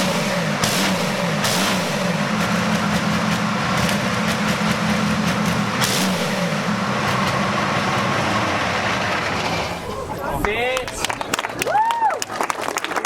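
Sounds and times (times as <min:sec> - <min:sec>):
diesel tank engine running: 0:00.0 - 0:11.7.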